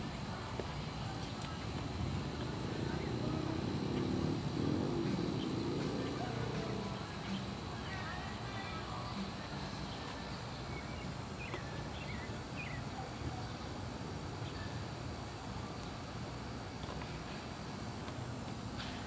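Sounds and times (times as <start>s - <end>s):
steady background noise: 0.0s - 19.0s
insects chirping: 0.1s - 18.8s.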